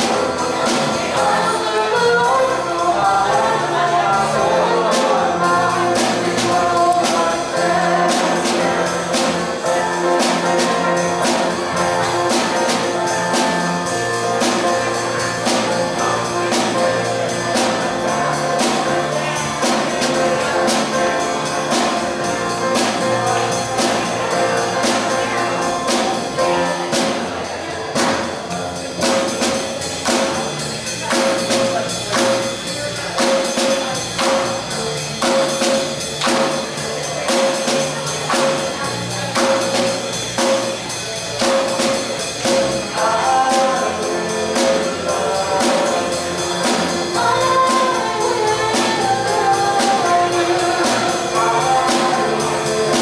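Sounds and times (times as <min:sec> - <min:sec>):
drum kit: 0:00.0 - 0:53.0
keyboard piano: 0:00.0 - 0:53.0.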